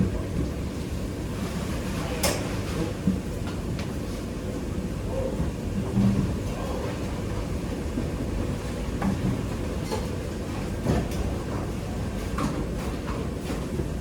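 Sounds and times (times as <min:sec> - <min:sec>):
kitchen ventilation rumble: 0:00.0 - 0:14.0.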